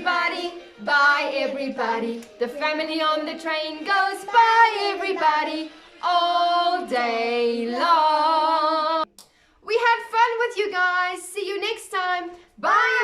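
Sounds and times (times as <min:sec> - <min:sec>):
woman and child singing: 0:00.0 - 0:09.0, 0:10.1 - 0:13.0.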